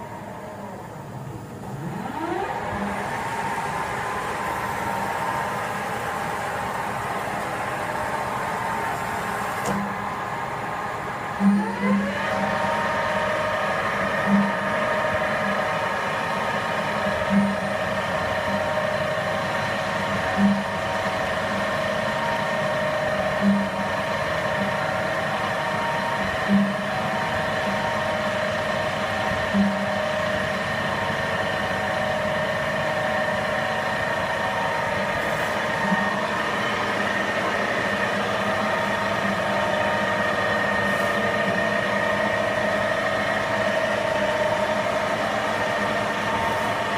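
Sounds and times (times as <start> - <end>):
lathe spindle whine: 0.0 - 46.9.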